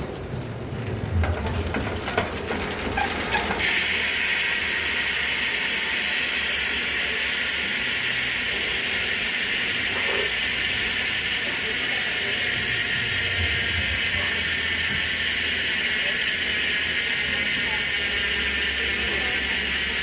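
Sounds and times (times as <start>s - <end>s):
bicycle hub ratchet clicking: 1.7s - 20.0s.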